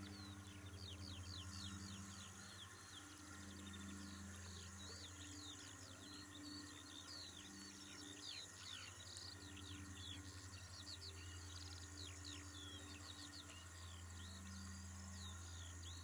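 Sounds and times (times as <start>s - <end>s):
faint birdsong chirping: 0.0s - 16.0s
low steady hum: 0.0s - 16.0s.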